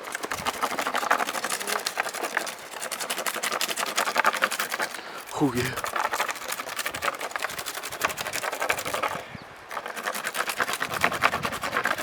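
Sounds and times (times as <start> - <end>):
knife scraping bark off stick: 0.0 - 12.0.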